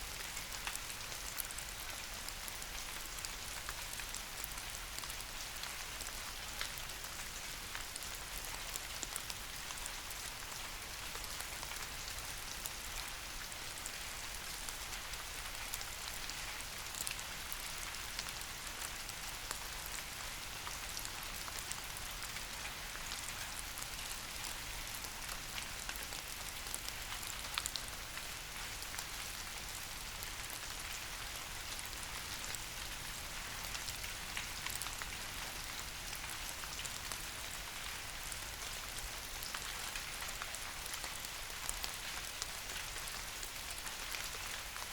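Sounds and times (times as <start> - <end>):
rain falling on leaves: 0.0 - 44.9.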